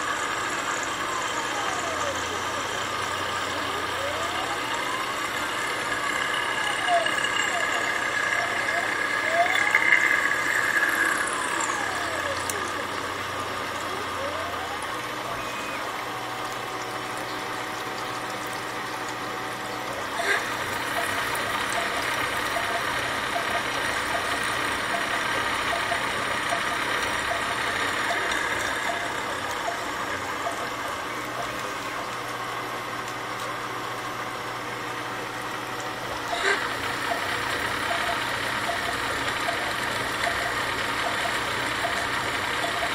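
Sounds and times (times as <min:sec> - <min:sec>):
milling machine cutting metal: 0:00.0 - 0:42.9
thin whine: 0:00.0 - 0:42.9.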